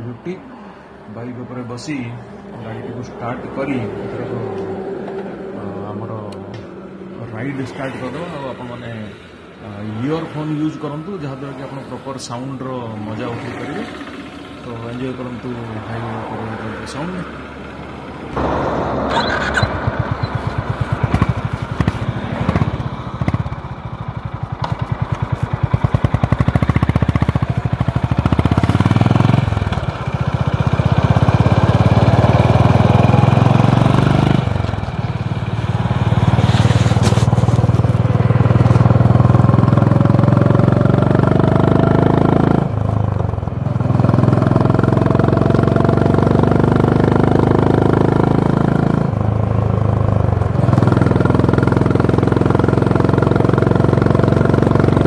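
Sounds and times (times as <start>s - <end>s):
motorcycle engine revving through gears: 9.6s - 55.0s.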